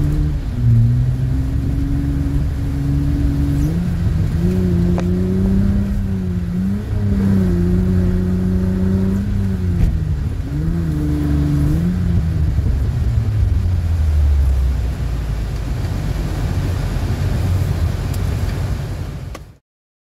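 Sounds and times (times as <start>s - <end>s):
car engine revving: 0.0s - 19.2s
road noise: 0.0s - 19.6s.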